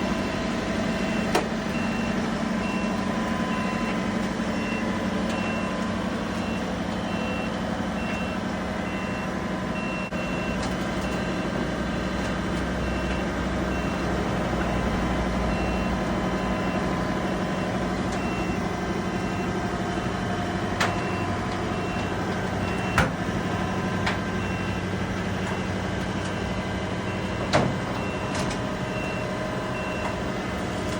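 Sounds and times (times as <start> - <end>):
steady mechanical hum: 0.0 - 30.9.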